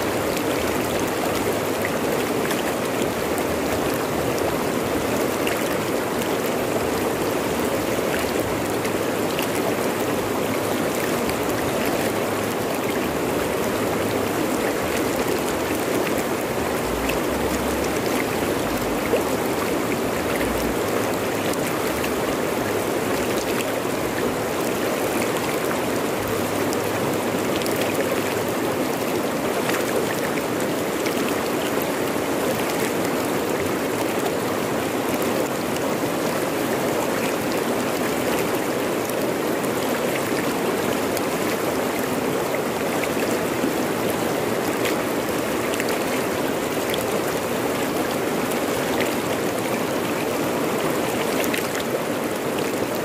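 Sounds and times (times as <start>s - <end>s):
river rushing over rocks: 0.0s - 53.0s.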